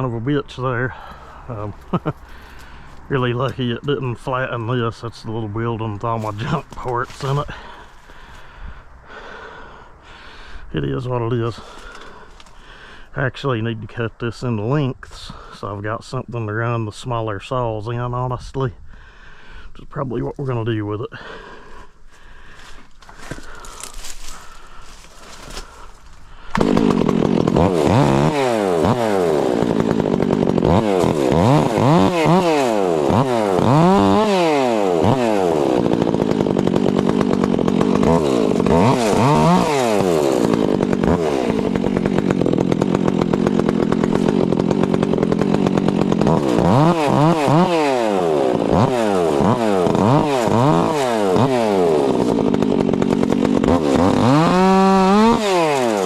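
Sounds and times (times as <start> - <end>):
chainsaw cutting wood: 0.7 - 10.5, 11.5 - 13.0, 20.3 - 56.0.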